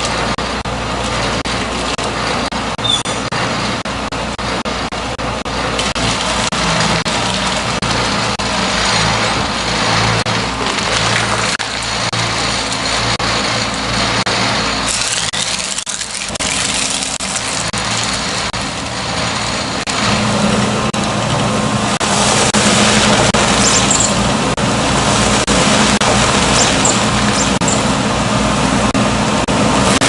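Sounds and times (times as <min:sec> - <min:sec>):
heavy machine engine drone: 0:00.0 - 0:30.0
steady hum: 0:00.0 - 0:30.0.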